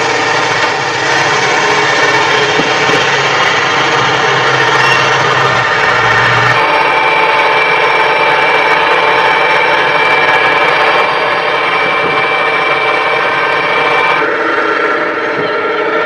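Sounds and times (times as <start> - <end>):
high mechanical whine: 0.0 - 16.0
machine running: 0.0 - 16.0.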